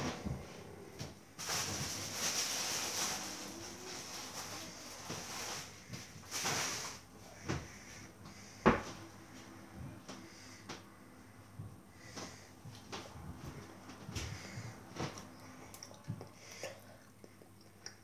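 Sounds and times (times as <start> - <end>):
rustling and shuffling: 0.0 - 16.4.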